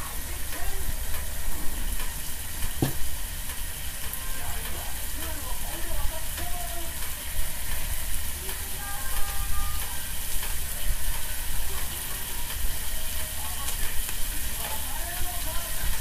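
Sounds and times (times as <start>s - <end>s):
food sizzling on a hot plate: 0.0s - 16.0s.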